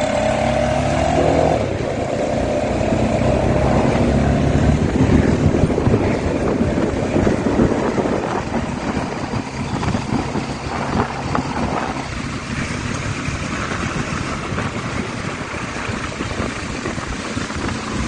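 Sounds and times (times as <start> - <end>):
motorcycle engine running: 0.0 - 18.0
wind rush on microphone: 0.0 - 18.0.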